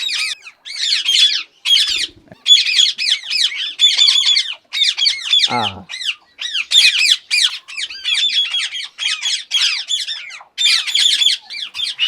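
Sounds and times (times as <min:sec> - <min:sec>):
parakeets squawking: 0:00.0 - 0:12.0.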